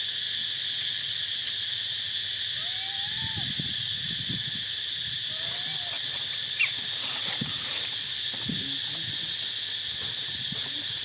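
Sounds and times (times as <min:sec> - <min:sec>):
insect chorus buzzing: 0:00.0 - 0:11.0.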